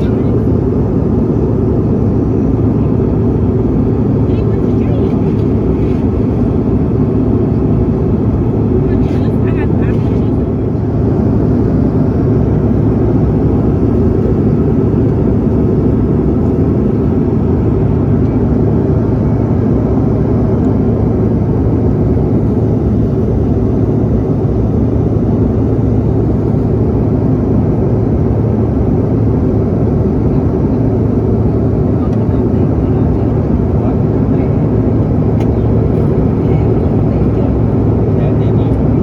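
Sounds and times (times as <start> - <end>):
jet engine and airflow noise: 0.0 - 39.0.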